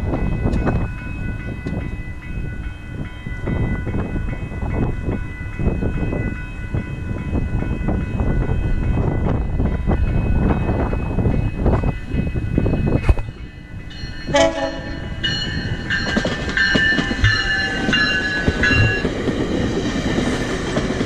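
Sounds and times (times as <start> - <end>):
train rumbling: 0.0 - 21.0
wheels clacking on rails: 0.0 - 21.0.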